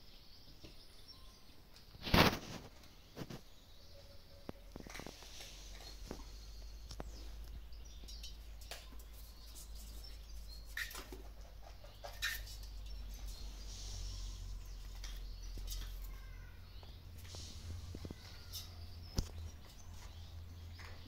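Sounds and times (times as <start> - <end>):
faint high chirping: 0.0 - 2.0, 2.8 - 21.0
kittens scuffling on tiled floor: 1.8 - 3.6, 4.5 - 21.0.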